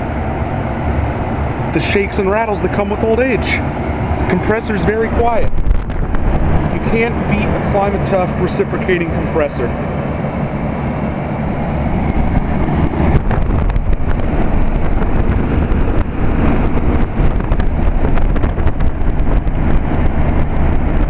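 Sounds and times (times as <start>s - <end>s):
air conditioner fan running: 0.0s - 21.0s
low hum: 0.0s - 21.0s.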